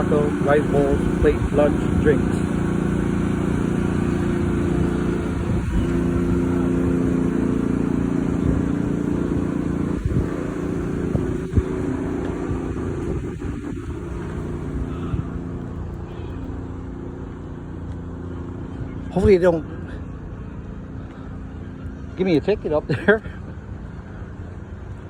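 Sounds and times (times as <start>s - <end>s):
steady engine-like drone: 0.0s - 25.0s.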